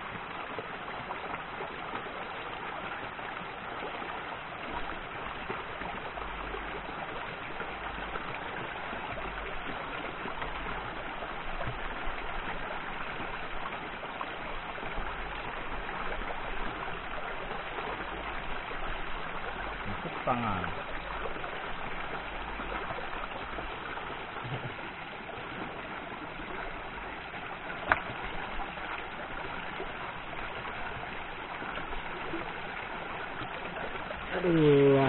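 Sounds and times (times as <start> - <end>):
stream running over stones: 0.0 - 35.0.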